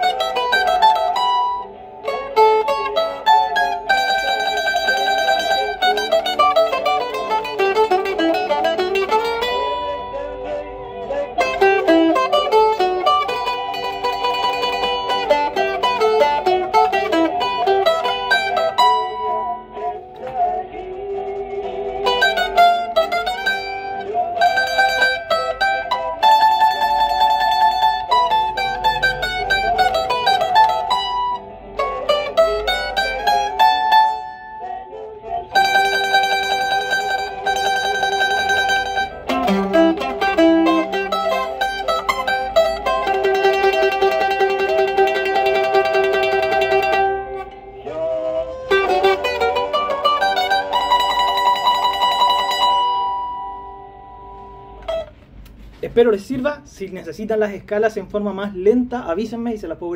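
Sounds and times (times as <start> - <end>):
mandolin melody: 0.0 - 56.5.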